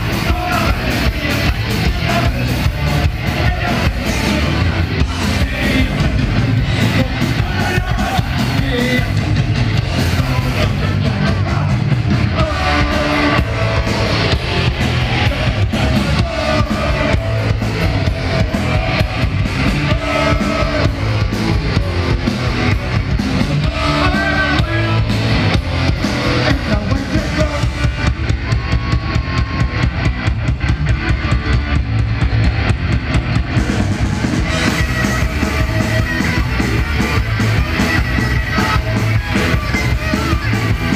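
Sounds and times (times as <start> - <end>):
live rock band: 0.0 - 40.9.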